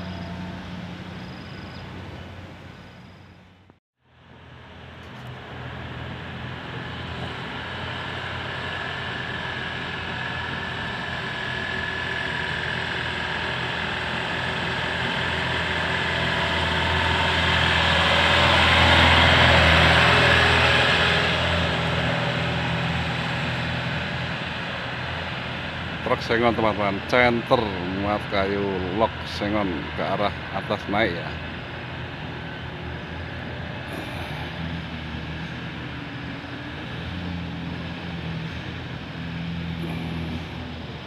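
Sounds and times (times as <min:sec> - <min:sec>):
heavy truck diesel engine: 0:00.0 - 0:41.0.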